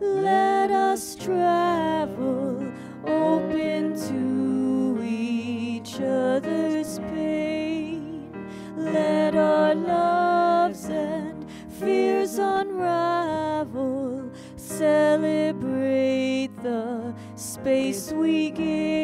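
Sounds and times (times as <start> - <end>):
grand piano accompaniment: 0.0 - 19.0
woman singing a hymn: 0.0 - 19.0.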